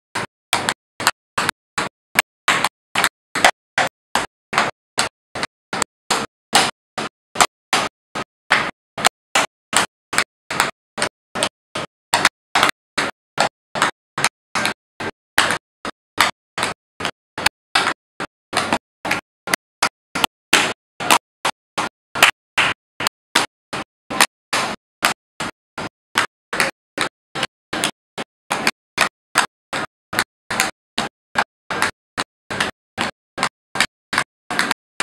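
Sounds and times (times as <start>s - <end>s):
tap shoes clacking on board: 0.2s - 35.0s.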